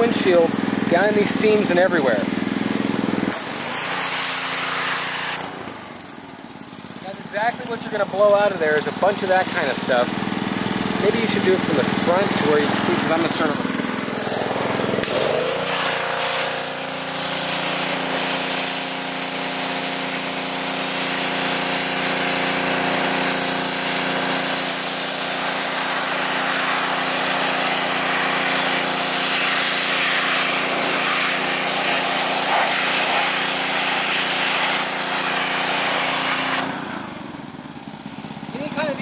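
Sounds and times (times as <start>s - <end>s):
pressure washer jet hissing: 0.0s - 37.2s
pressure washer hum: 0.0s - 39.0s.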